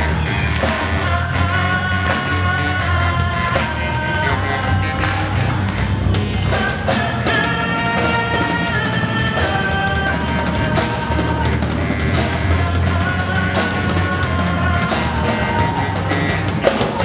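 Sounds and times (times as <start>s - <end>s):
drum kit: 0.0s - 17.0s
electric bass: 0.0s - 17.0s
woman singing: 0.0s - 17.0s.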